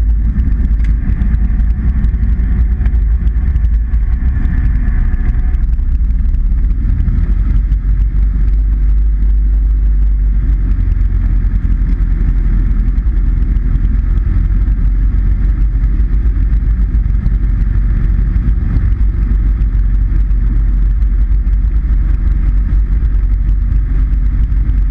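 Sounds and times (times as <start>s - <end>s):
small plane engine and propeller: 0.0s - 24.9s.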